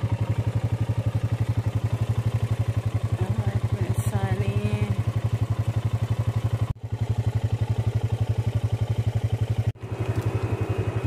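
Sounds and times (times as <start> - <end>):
farm vehicle engine running: 0.0 - 11.0.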